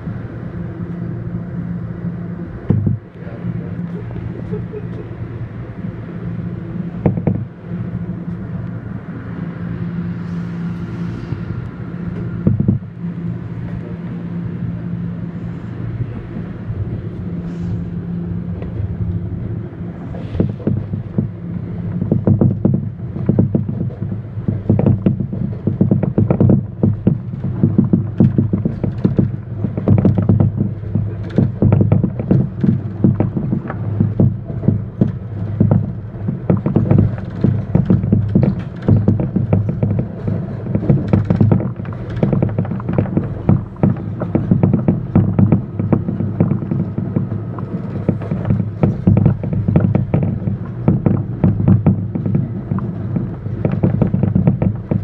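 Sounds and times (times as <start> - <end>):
subway train rumbling: 0.0 - 55.0
wheels clacking over rail joints: 2.6 - 9.4, 10.1 - 55.0.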